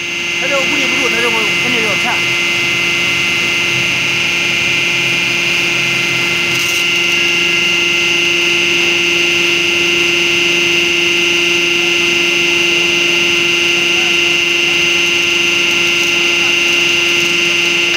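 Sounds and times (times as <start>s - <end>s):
electric motor and pump humming: 0.0s - 17.9s.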